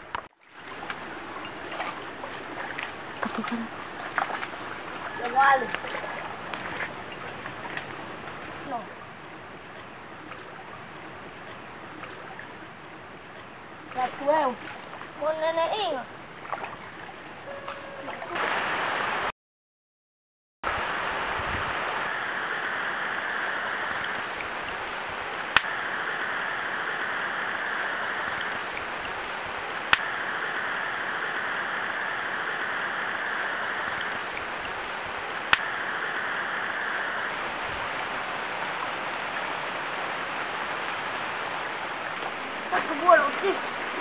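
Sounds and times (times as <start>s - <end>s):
forest stream flowing: 0.0s - 19.3s, 20.7s - 44.0s.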